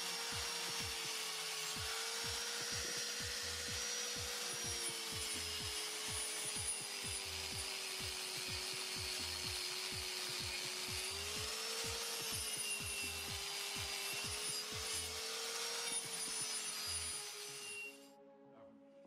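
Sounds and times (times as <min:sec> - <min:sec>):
angle grinder grinding steel: 0:00.0 - 0:18.1.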